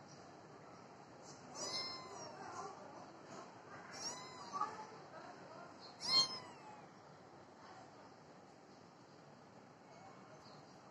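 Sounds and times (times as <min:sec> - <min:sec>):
faint steady background noise: 0:00.0 - 0:10.9.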